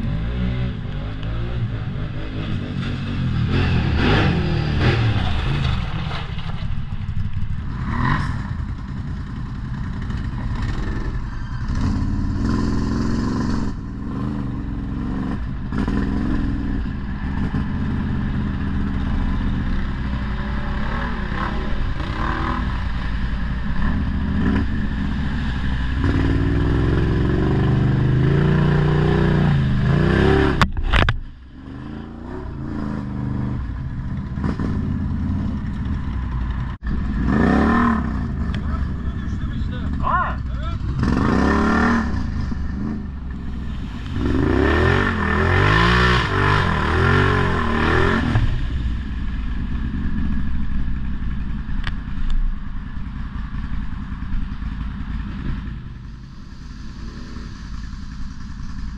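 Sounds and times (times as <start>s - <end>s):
atv engine revving: 0.0s - 58.9s.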